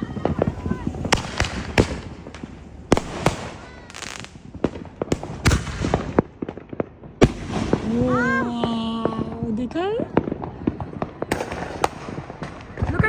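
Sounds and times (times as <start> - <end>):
fireworks bangs and pops: 0.0 - 13.0
fireworks booms: 0.0 - 13.0.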